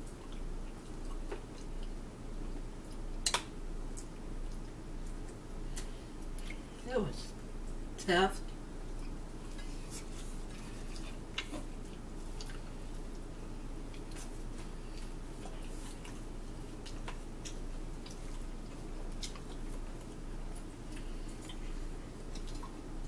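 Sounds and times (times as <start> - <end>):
chewing pizza: 0.0 - 6.8, 7.6 - 23.0
steady low hum: 0.0 - 23.0.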